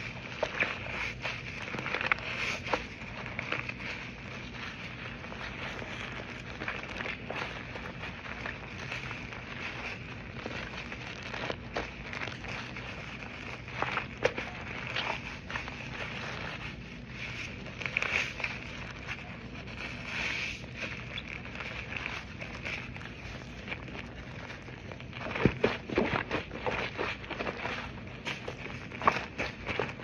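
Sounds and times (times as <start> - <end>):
slime squeezed by hand crackling: 0.0 - 30.0.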